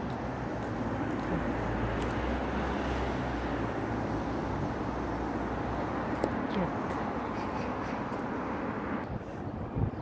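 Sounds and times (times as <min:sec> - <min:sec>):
passing vehicles rumbling: 0:00.0 - 0:10.0.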